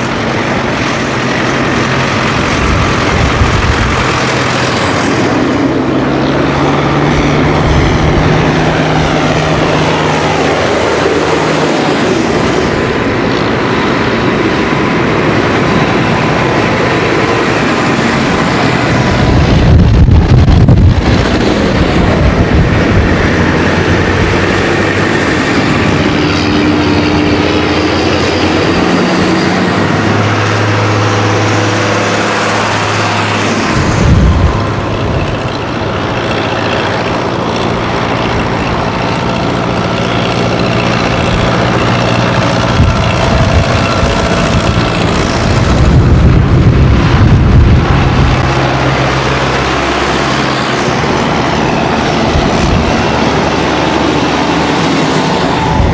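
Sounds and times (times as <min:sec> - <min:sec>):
tractor diesel engines passing: 0:00.0 - 0:55.9.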